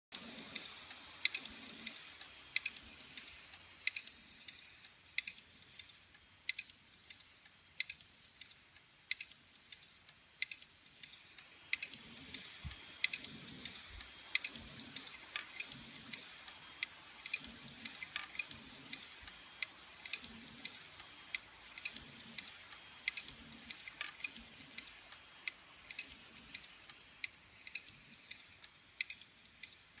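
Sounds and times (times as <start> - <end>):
hard drive head clicking: 0.1 - 30.0.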